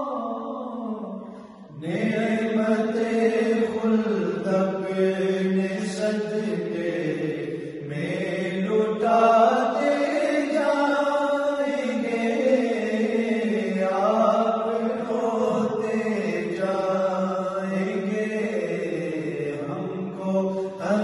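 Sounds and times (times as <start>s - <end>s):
men chanting devotional song: 0.0s - 21.0s.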